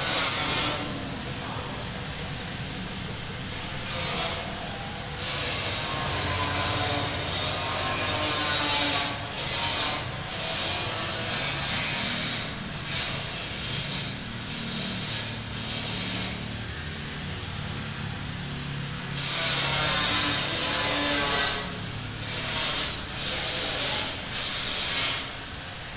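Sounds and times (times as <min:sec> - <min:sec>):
faint high whine: 0:00.0 - 0:25.9.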